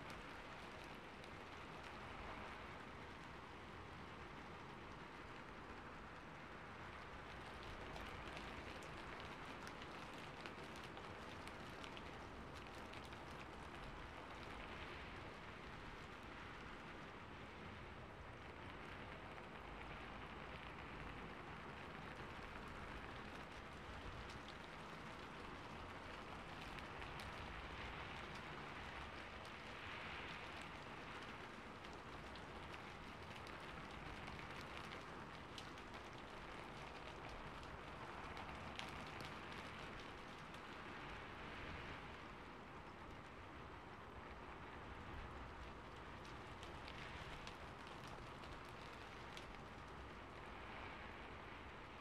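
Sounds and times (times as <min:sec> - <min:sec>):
raindrop ticks: 0:00.0 - 0:52.0
steady rain: 0:00.0 - 0:52.0.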